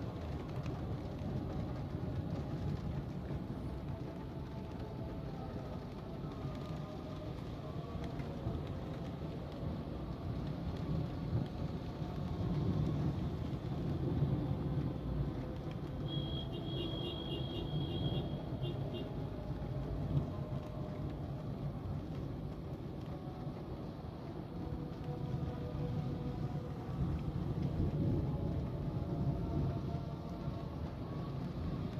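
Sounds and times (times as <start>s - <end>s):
car driving in rain: 0.0s - 31.9s.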